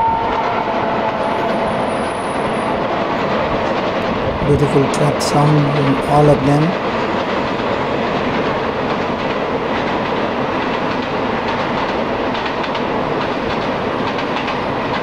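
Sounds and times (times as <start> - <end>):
clickety-clack over rail joints: 0.0 - 15.0
train wheels rushing on track: 0.0 - 15.0.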